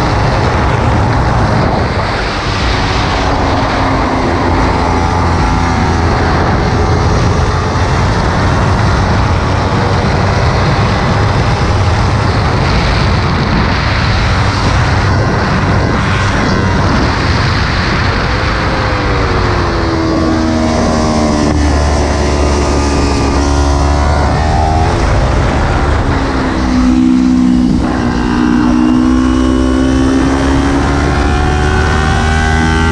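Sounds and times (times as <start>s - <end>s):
motorcycle engine running hard: 0.0s - 32.9s
wind rush on microphone: 0.0s - 32.9s.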